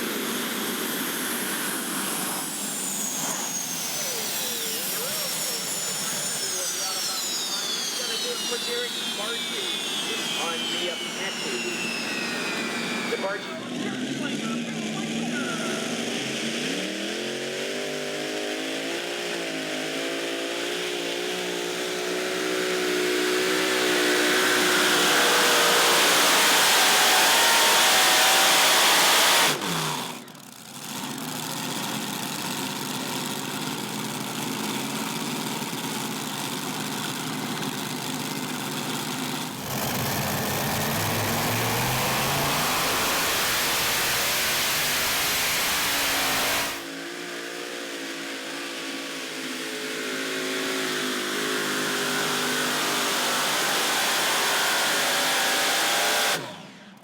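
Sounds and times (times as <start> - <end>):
engine running hard: 0.0 - 57.0
tractor engine revving: 0.0 - 57.0.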